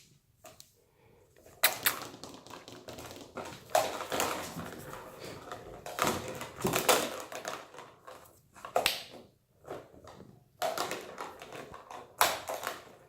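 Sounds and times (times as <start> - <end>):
kittens scuffling and tapping: 1.4 - 13.0.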